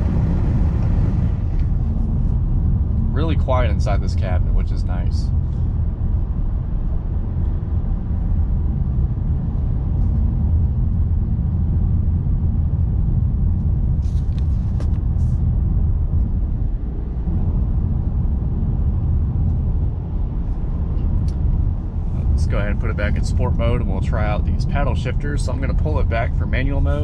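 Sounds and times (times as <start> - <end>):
low road rumble inside car: 0.0 - 27.0.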